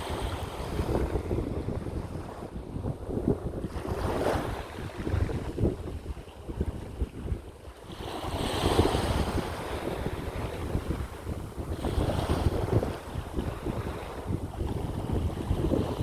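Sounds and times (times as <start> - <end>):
sea waves washing on shore: 0.0 - 16.0
wind buffeting microphone: 0.0 - 16.0.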